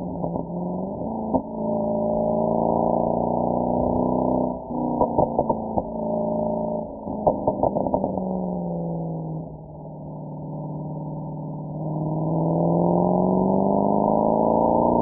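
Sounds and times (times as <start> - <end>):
car exhaust note: 0.0 - 15.0.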